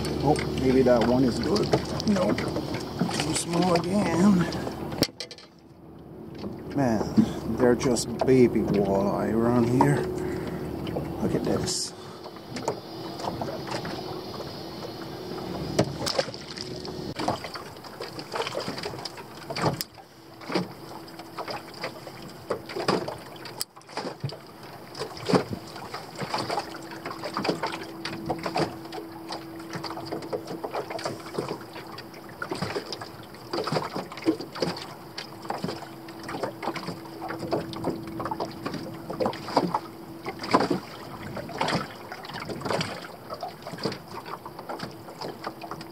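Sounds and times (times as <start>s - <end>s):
faint steady hum: 0.0s - 45.9s
water lapping against boat hull: 0.0s - 45.9s.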